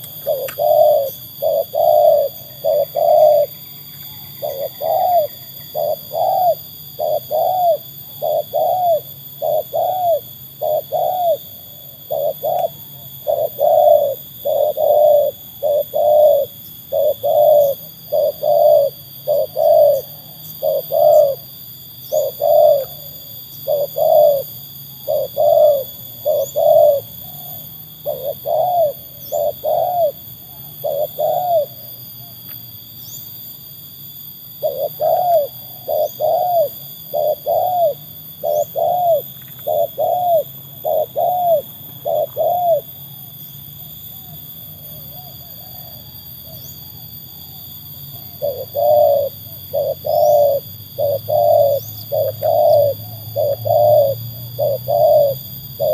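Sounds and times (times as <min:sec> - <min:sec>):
dove cooing: 0:00.0 - 0:33.2, 0:34.5 - 0:55.9.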